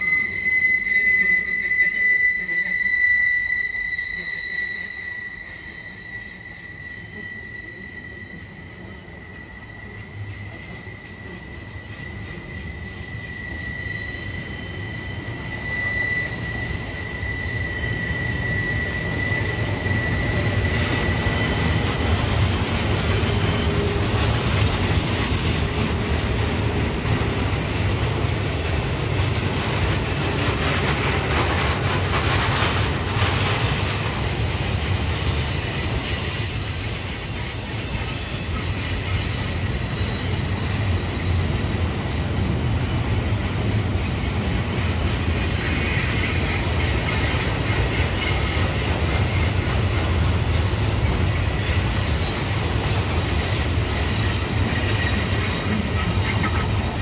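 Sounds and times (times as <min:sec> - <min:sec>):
high wheel flange squeal: 0:00.0 - 0:57.0
train wheels rumbling on rails: 0:00.0 - 0:57.0.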